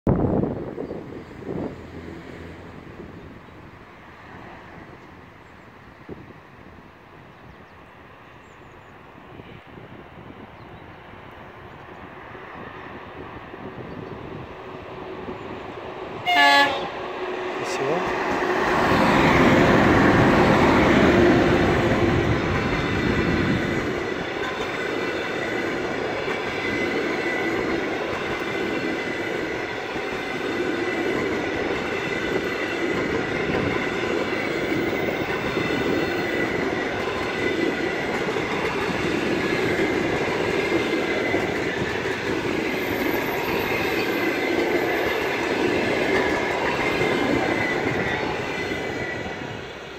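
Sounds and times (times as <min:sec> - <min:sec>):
electric locomotive passing: 0:00.1 - 0:49.9
train wheels rushing on rails: 0:00.2 - 0:49.9.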